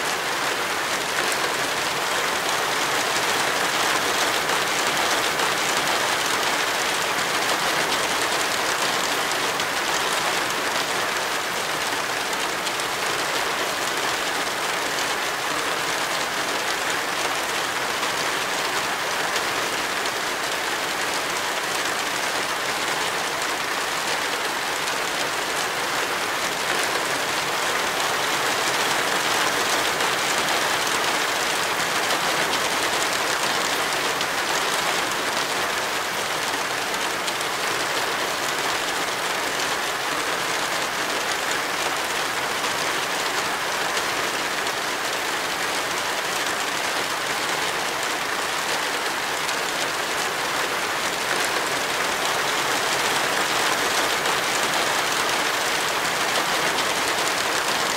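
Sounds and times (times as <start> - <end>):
heavy rain downpour: 0.0 - 57.9.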